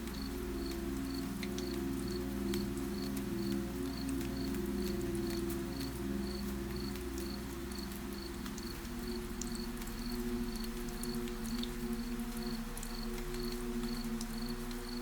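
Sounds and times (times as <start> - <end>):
light rain with drips: 0.0 - 15.0.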